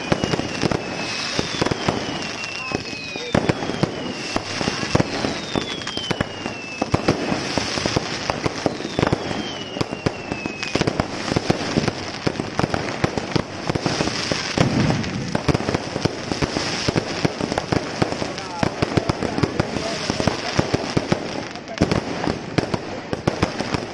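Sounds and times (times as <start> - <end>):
fireworks bangs and crackling: 0.0 - 23.9
fireworks whistles falling in pitch: 0.0 - 23.9.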